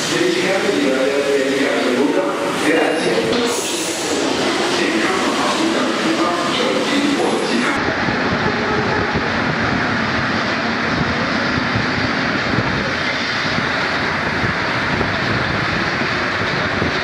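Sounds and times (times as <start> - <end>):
train roaring through tunnel: 0.0 - 17.0.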